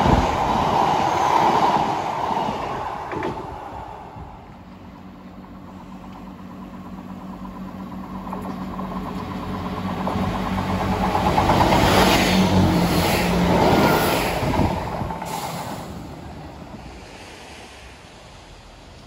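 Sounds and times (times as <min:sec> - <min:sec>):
train engine drone: 0:00.0 - 0:19.0
wheel and rail noise: 0:00.0 - 0:19.0.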